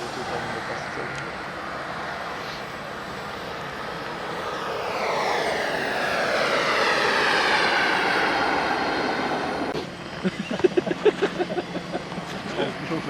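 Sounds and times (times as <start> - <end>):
model airplane engine whine: 0.0 - 13.0.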